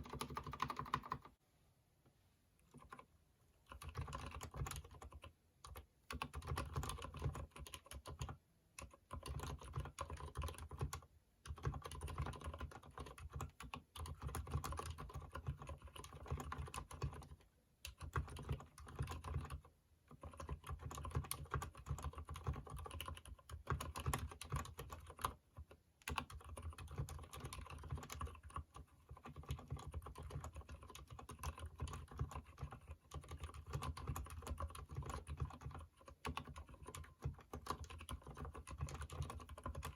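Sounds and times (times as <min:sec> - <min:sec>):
typing on mechanical keyboard: 0:00.0 - 0:01.4, 0:02.6 - 0:39.9.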